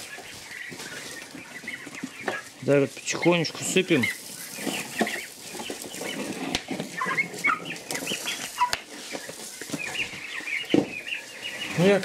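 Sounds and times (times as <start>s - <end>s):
turkey poults peeping: 0.0s - 12.0s.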